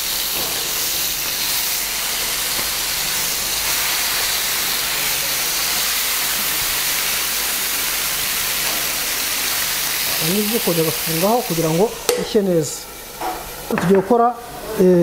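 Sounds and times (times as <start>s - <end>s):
chicken sizzling in a grill pan: 0.0s - 15.0s.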